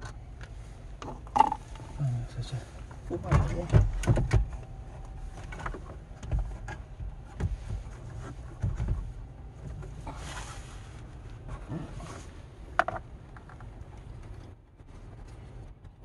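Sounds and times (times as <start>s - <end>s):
car stereo scraping and rustling: 0.0s - 16.0s
steady low rumble: 0.0s - 16.0s.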